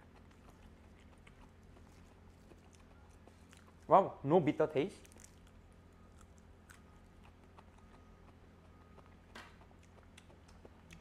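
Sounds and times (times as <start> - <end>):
chewing crisp lettuce: 0.0 - 3.9, 4.8 - 11.0
low steady hum: 0.0 - 11.0.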